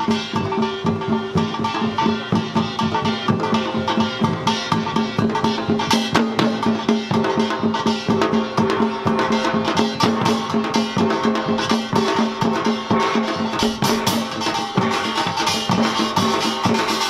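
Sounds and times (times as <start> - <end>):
hourglass drums: 0.0 - 17.0.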